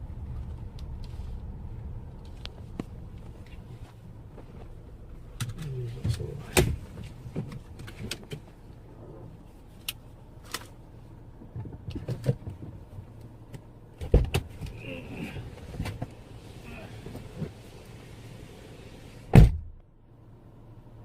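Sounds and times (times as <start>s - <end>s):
car humming: 0.0s - 21.0s.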